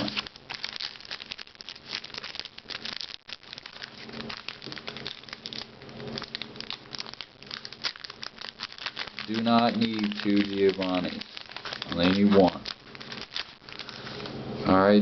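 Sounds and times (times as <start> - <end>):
card wrappers crinkling: 0.0 - 14.4.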